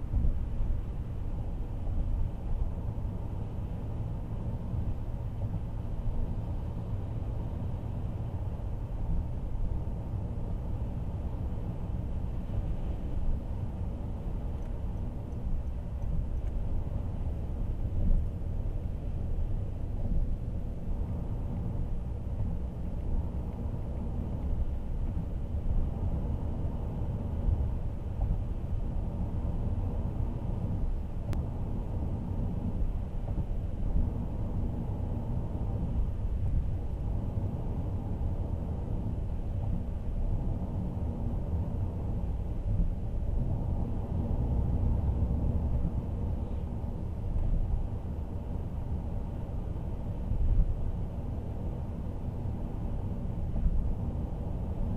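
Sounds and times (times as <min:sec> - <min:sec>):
road and tyre rumble in car cabin: 0:00.0 - 0:54.9.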